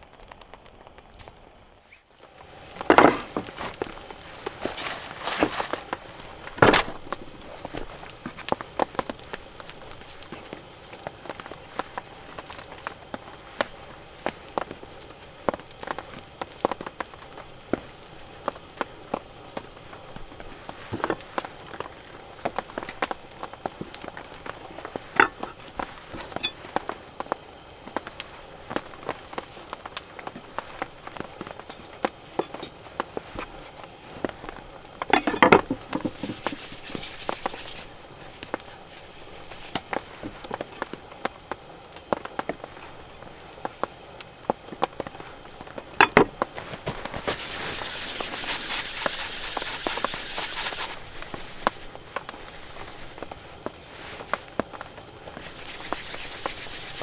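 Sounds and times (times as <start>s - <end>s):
rain and sleet pattering: 0.0s - 57.0s
rustle: 1.2s - 57.0s.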